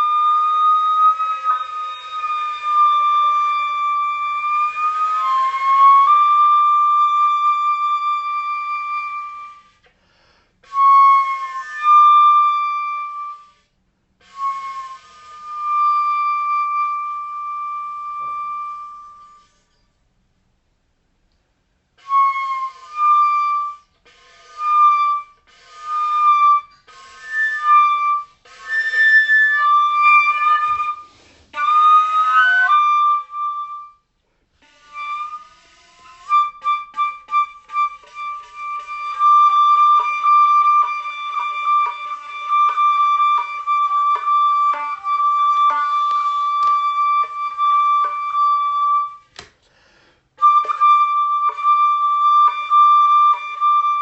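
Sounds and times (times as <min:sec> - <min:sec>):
solo wind instrument melody: 0:00.0 - 0:10.0, 0:10.6 - 0:19.9, 0:21.9 - 0:49.5, 0:50.4 - 0:54.0.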